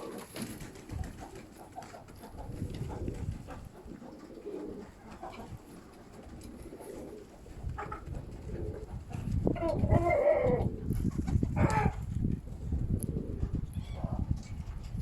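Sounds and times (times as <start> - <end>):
pigeons cooing: 0.0 - 14.5
wind buffeting microphone: 2.1 - 4.0, 4.8 - 15.0.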